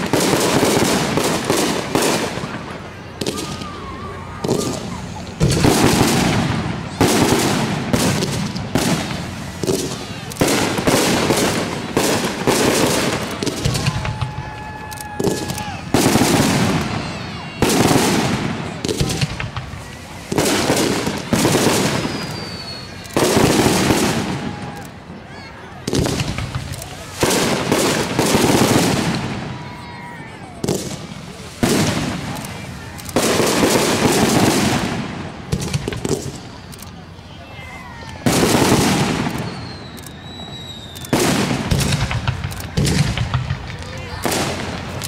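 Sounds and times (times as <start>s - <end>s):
fireworks booming: 0.0s - 25.1s, 25.8s - 37.2s, 38.0s - 45.0s
fireworks whistling: 0.0s - 45.0s.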